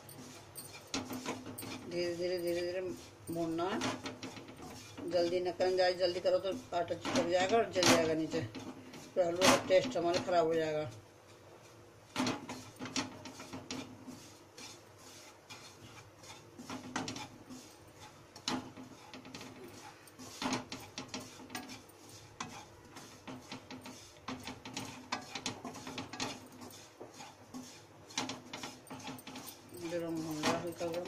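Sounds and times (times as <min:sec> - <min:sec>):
wooden spatula scraping a pan: 0:00.0 - 0:31.0.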